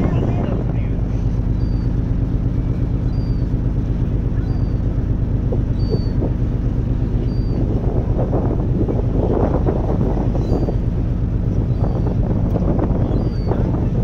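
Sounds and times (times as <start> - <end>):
ship engines humming: 0.0 - 14.0
wind buffeting microphone: 0.0 - 14.0.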